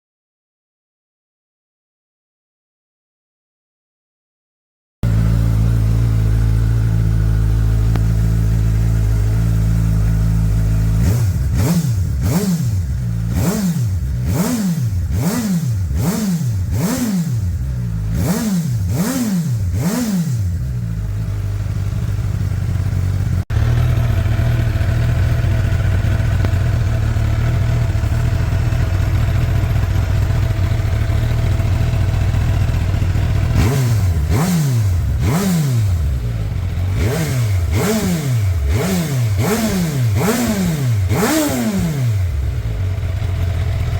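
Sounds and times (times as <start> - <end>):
motorcycle engine idling: 5.0 - 43.9
motorcycle throttle blips: 5.0 - 43.9.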